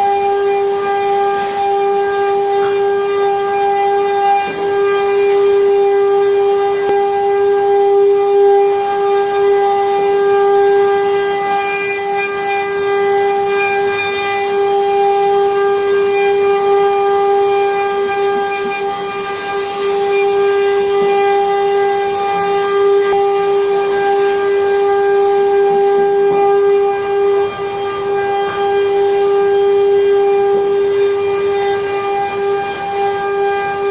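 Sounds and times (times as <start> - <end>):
router spindle whining: 0.0 - 33.9.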